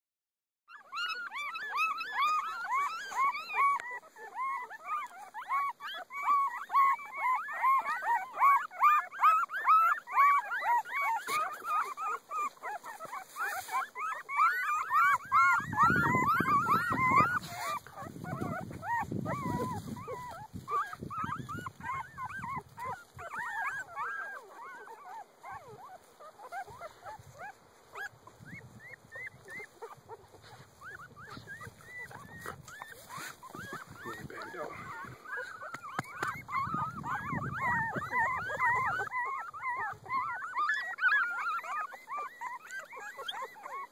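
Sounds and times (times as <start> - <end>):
puppies whimpering and squealing: 0.7 - 43.9.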